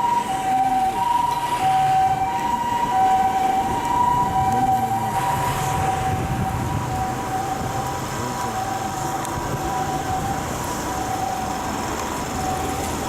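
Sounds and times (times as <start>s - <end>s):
two-tone siren: 0.0s - 12.8s
street traffic noise: 0.0s - 13.0s.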